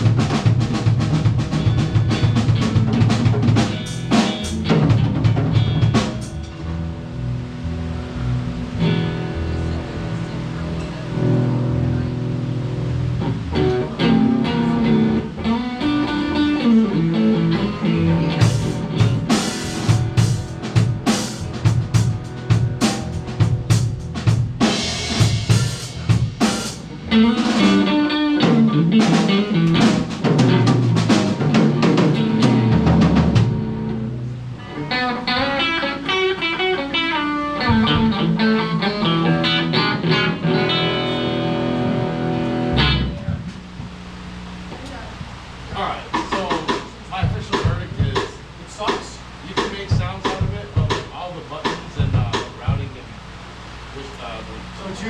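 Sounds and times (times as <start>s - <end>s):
electric guitar: 0.0s - 45.3s
bass guitar: 0.0s - 55.0s
drum kit: 0.0s - 55.0s.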